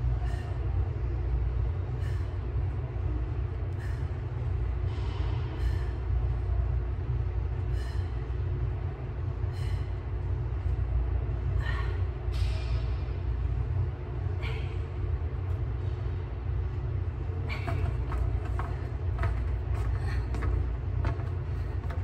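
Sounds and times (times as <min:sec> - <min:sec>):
air-handling system rumble: 0:00.0 - 0:22.0.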